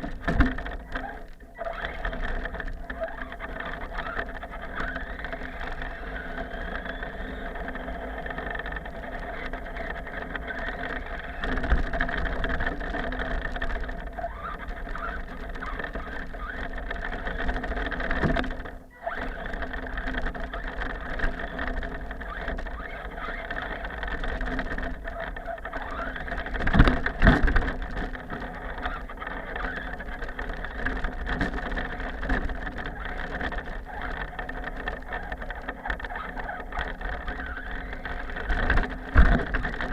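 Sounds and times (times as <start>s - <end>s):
toy car motor whine: 0.1s - 39.9s.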